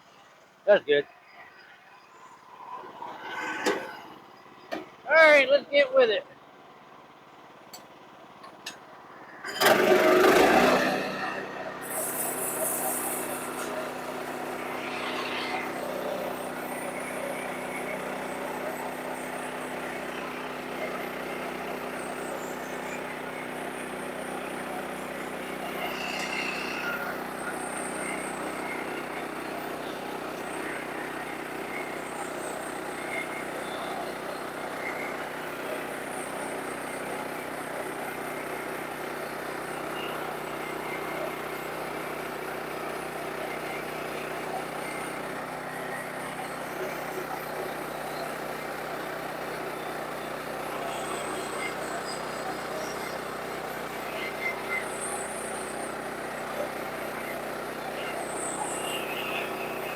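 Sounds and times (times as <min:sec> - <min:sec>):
sawmill engine droning: 0:02.7 - 0:59.9.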